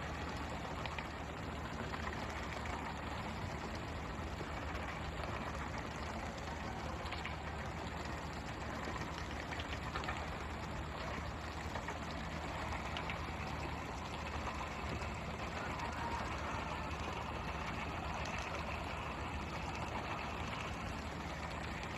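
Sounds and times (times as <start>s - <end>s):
boat engine humming: 0.0s - 21.9s.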